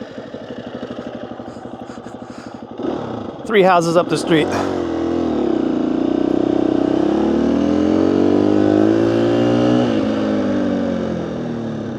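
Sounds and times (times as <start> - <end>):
dirt bike engine running: 0.0 - 10.5.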